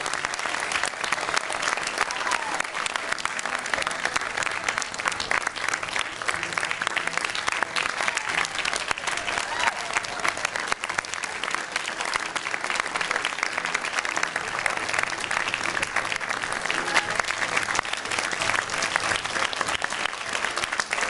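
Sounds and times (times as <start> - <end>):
audience applause: 0.0 - 21.0.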